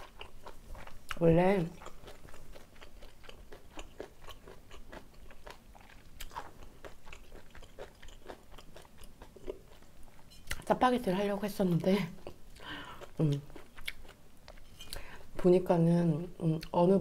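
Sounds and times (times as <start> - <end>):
wet chewing of noodles: 0.0 - 10.7, 12.2 - 15.3.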